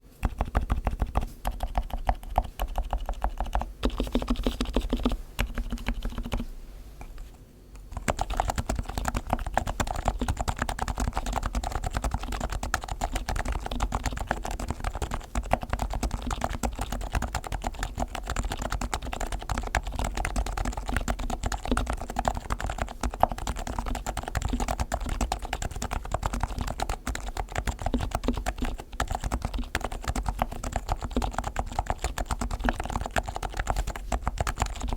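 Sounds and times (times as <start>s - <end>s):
fast keyboard typing: 0.2s - 6.4s, 7.9s - 34.9s.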